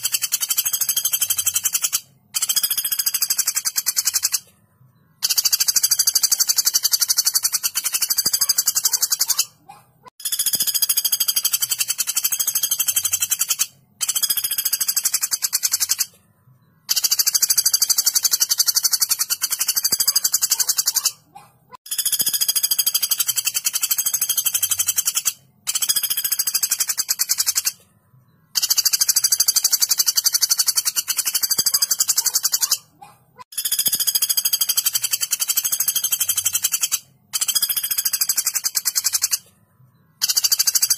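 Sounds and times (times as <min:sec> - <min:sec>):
woodpecker rattling trills: 0:00.0 - 0:04.5, 0:05.2 - 0:16.2, 0:16.8 - 0:27.8, 0:28.5 - 0:39.5, 0:40.2 - 0:40.9.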